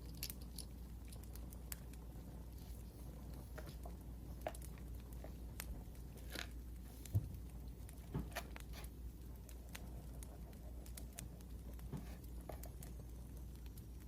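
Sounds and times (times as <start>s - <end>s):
low steady hum: 0.0s - 14.0s
wood fire crackling: 0.0s - 14.0s.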